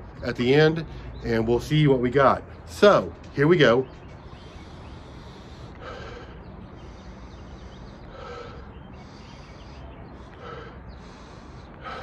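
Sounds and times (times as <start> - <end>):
faint outdoor background hum: 0.0 - 12.0.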